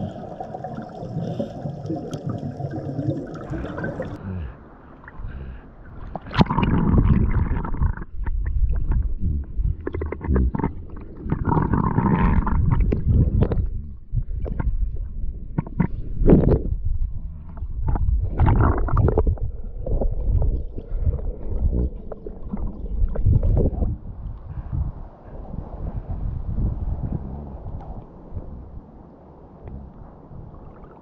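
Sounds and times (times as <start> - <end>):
muffled underwater water noise: 0.0 - 31.0.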